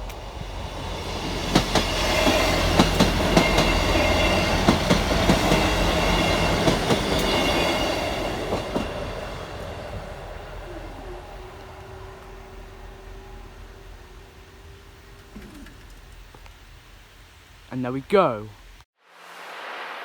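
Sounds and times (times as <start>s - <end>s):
wheels clicking over rail joints: 0.0s - 17.0s
train passing: 0.0s - 20.0s.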